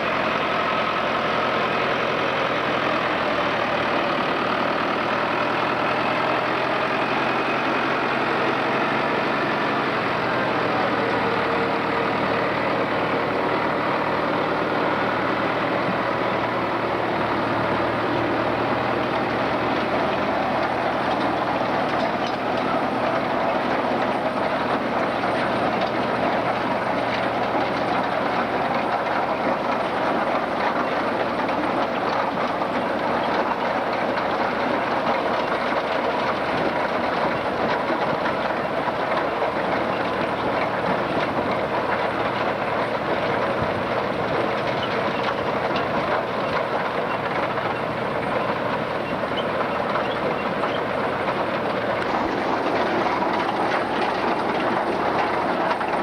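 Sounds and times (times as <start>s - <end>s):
harvester rattling clatter: 0.0s - 56.0s
tractor engine running under load: 0.0s - 56.0s.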